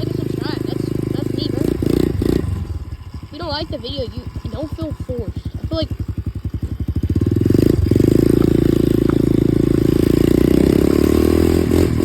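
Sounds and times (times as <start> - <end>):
electric dirt bike rumble: 0.0 - 12.0.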